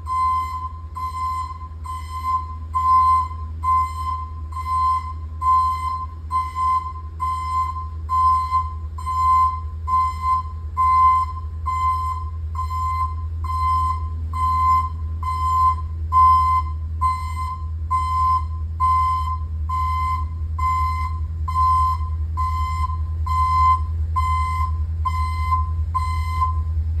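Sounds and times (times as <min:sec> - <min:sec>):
reversing alarm beeping: 0:00.0 - 0:26.9
engine rumble: 0:00.0 - 0:27.0.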